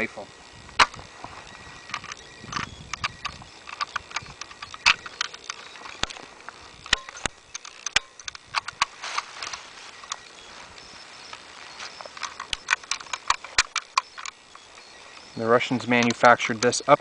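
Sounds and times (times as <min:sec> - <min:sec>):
sharp clicks and knocks: 0:00.7 - 0:01.1, 0:01.8 - 0:10.4, 0:11.2 - 0:14.6, 0:15.2 - 0:16.8.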